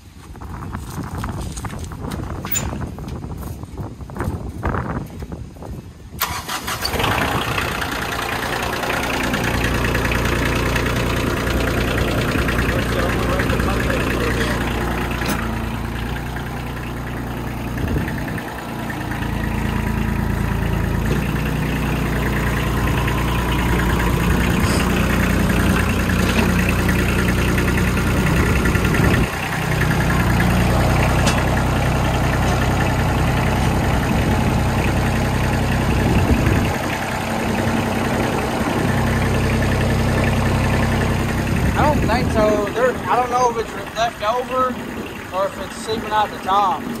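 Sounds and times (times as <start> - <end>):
tractor diesel engine idling: 6.2 - 47.0.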